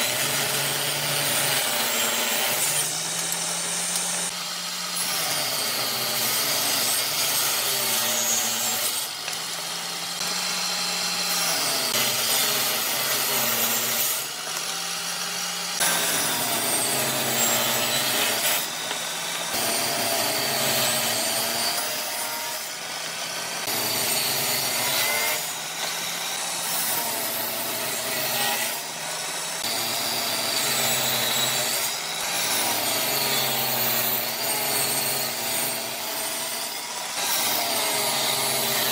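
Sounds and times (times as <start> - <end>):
table saw ripping wood: 0.0 - 38.9.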